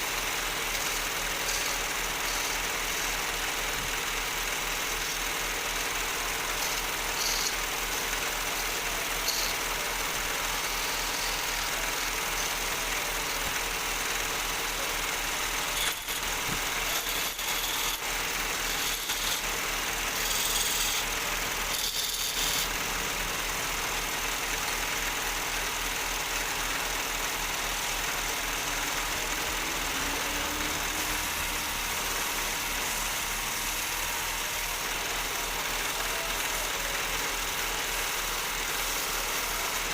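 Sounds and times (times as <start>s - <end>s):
electric wood lathe running: 0.0s - 39.9s.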